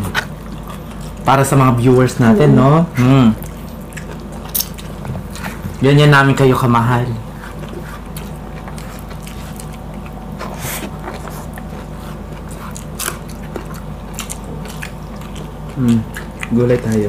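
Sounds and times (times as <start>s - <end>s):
chewing and wet mouth noises: 0.0s - 17.0s
steady low hum: 0.0s - 17.0s.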